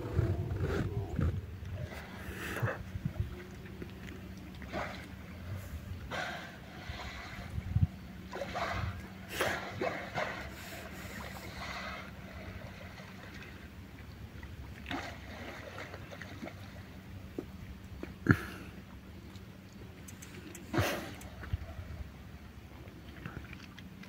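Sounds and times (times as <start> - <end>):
low steady rumble: 0.0 - 24.0
water splashing and sloshing: 0.0 - 24.0.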